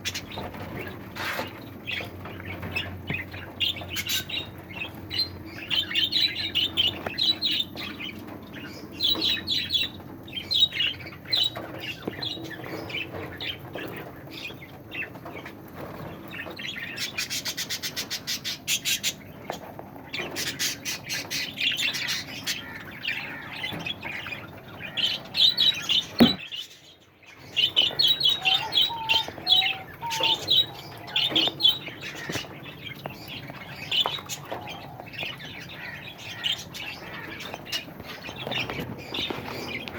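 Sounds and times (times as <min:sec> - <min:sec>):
cage birds chirping and squawking: 0:00.0 - 0:39.9.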